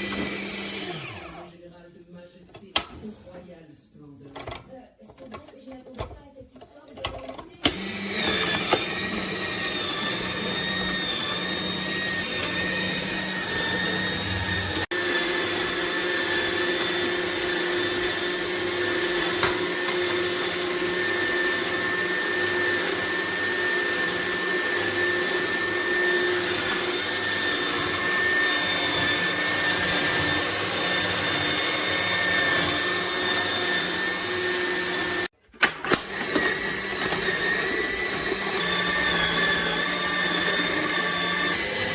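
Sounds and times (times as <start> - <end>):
juicer motor whining and humming: 0.0 - 1.5, 7.6 - 41.9.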